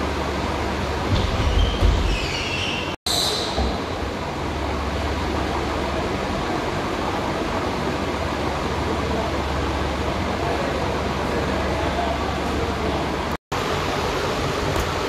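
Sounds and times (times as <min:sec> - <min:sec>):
rushing room noise: 0:00.0 - 0:15.0.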